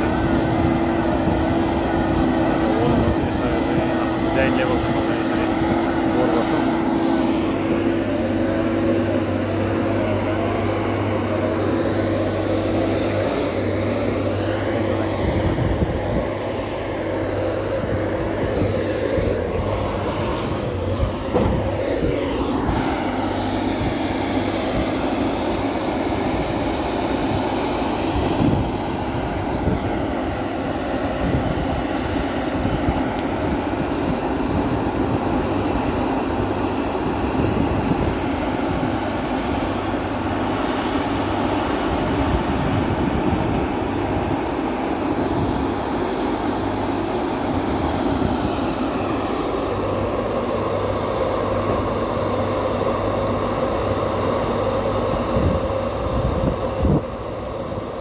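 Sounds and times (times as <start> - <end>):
large machinery engine droning: 0.0 - 58.0.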